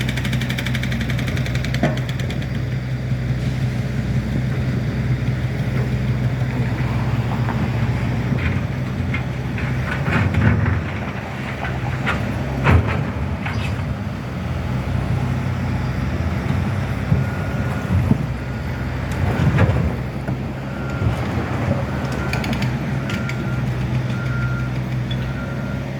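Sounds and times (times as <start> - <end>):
construction machinery engine running: 0.0 - 25.9.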